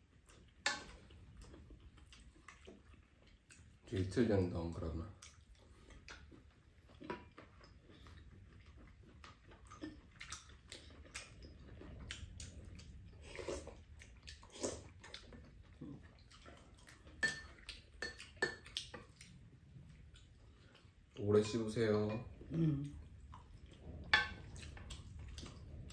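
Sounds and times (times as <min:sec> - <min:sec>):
people chewing: 0:00.0 - 0:25.9.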